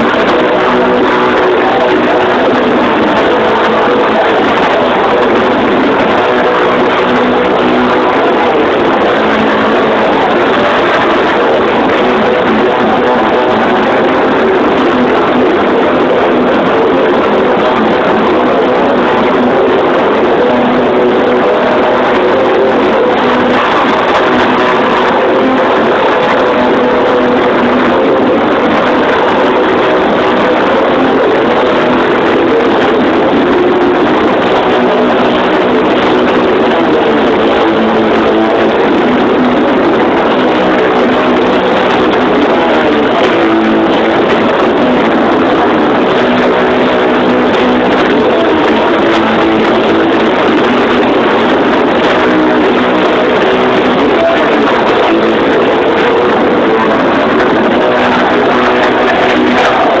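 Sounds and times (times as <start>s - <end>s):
distorted electric guitar: 0.0s - 60.0s
drums: 0.0s - 60.0s.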